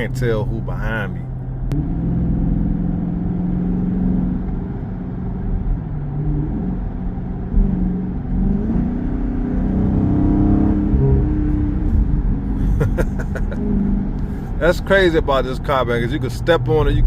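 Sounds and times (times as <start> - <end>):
car engine through exhaust: 0.0 - 17.0.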